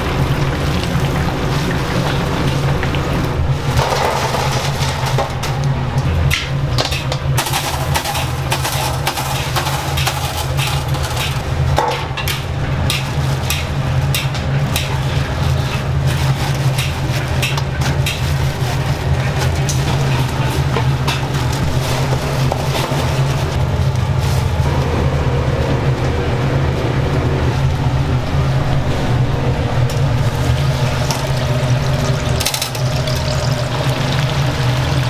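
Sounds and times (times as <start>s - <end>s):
low machine hum: 0.0s - 35.0s.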